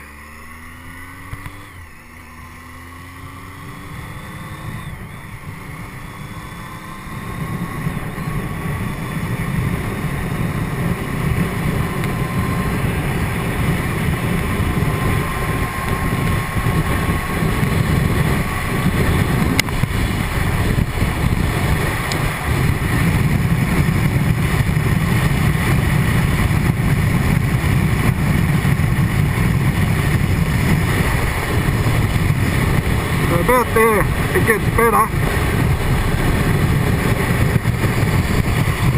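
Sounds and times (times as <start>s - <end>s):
wind buffeting motorcycle helmet: 0.0s - 38.9s.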